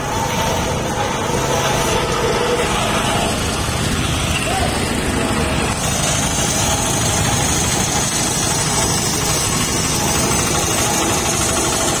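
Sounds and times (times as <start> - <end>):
road roller engine rumbling: 0.0 - 12.0.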